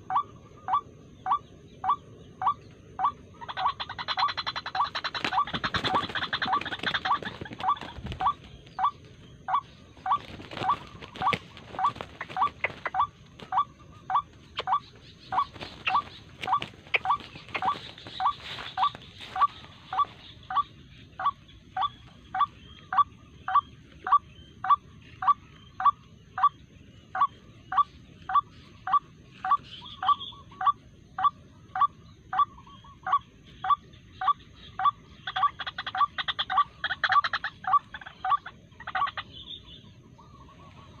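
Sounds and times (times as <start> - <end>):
waterhen calling: 0.0 - 26.5, 27.2 - 41.0.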